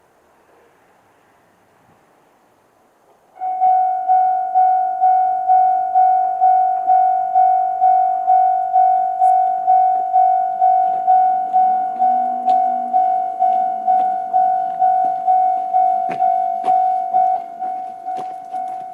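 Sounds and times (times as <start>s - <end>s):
level-crossing warning bell: 3.4s - 18.9s.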